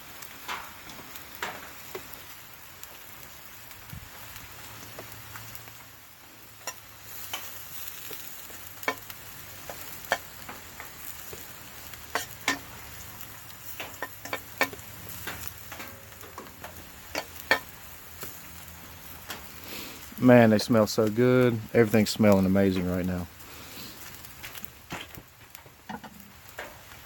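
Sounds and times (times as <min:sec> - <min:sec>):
food sizzling in a pan: 0:00.0 - 0:27.0
sharp pops and crackles: 0:00.1 - 0:27.0.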